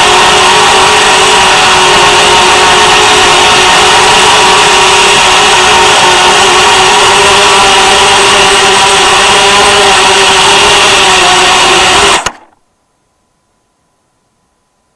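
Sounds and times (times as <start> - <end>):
quadcopter motors whining: 0.0 - 12.6.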